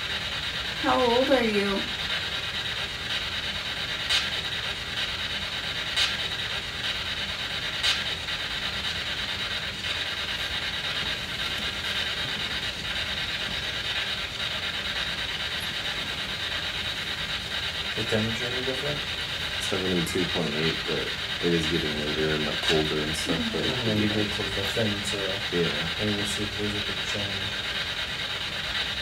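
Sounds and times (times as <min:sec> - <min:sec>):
faint rapid ticking: 0:00.0 - 0:29.0
radio static hiss: 0:00.7 - 0:29.0.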